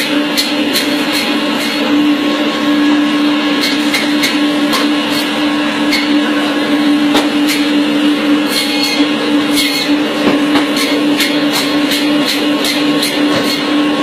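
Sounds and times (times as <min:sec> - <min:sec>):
band saw motor hum: 0:00.0 - 0:14.0.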